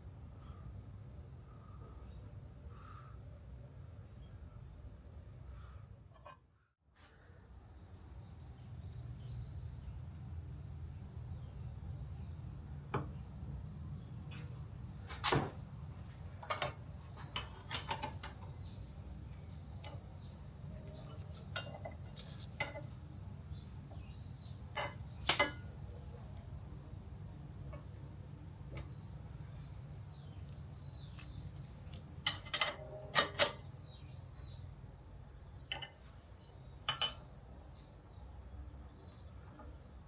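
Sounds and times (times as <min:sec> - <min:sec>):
steady low hum: 0:00.0 - 0:06.1, 0:07.2 - 0:40.0
insects chirping faintly: 0:07.1 - 0:40.0.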